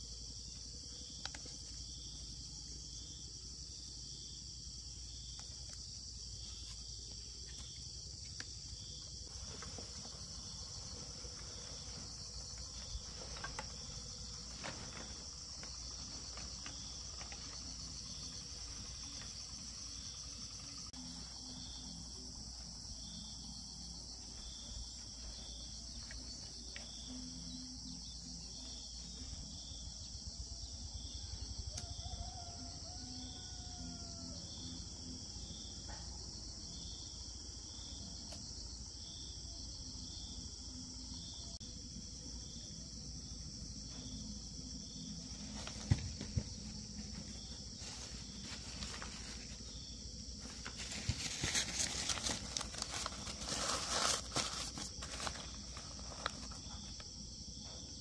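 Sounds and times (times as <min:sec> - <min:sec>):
pulsing insect call: 0:00.0 - 0:35.9, 0:36.5 - 0:58.0
insects chirring: 0:00.0 - 0:58.0.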